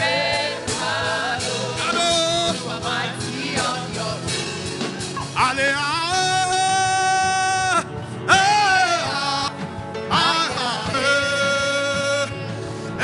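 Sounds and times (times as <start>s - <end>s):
backing music: 0.0s - 13.0s.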